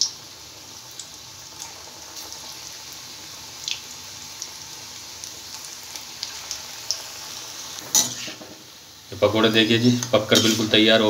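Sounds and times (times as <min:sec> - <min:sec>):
pakoras deep-frying in oil: 0:00.0 - 0:11.0.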